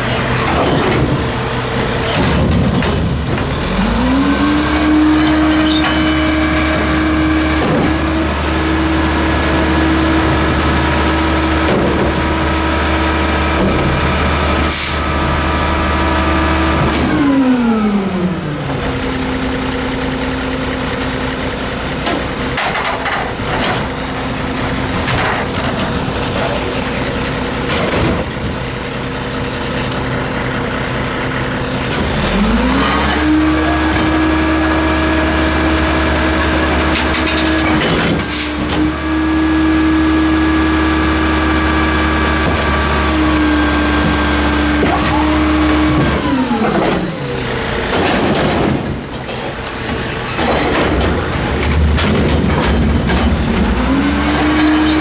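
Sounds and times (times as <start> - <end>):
garbage truck diesel engine idling: 0.0 - 37.6, 38.2 - 55.0.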